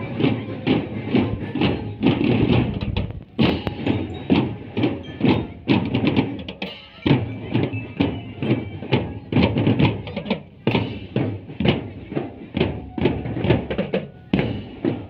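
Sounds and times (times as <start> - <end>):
marching drum band playing: 0.0 - 15.0.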